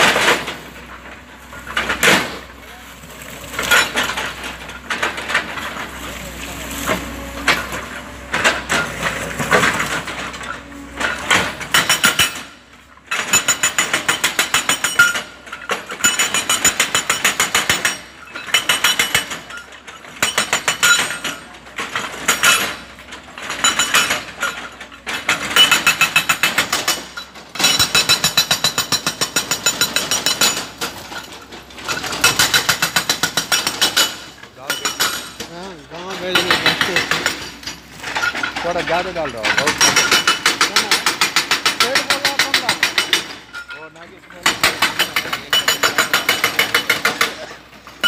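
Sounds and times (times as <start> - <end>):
hydraulic rock breaker hammering: 0.0 - 48.0.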